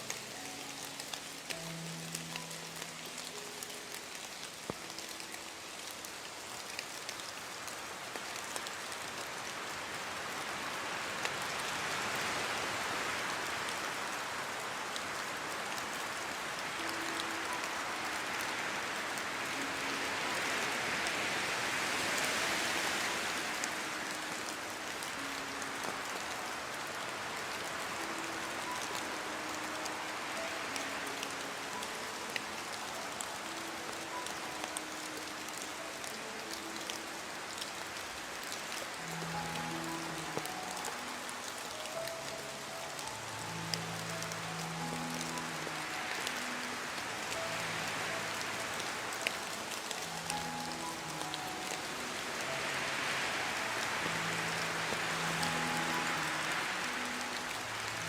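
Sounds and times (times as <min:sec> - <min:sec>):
rain hissing and pattering: 0:00.0 - 0:58.0.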